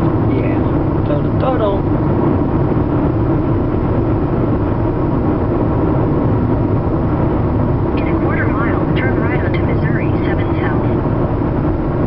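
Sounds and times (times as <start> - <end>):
car tyres and engine drone: 0.0 - 12.0.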